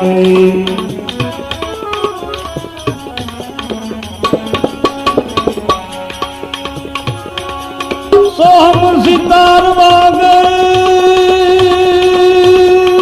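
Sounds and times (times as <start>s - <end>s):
held melodic notes: 0.0s - 12.0s
tabla and hand percussion: 0.0s - 13.0s.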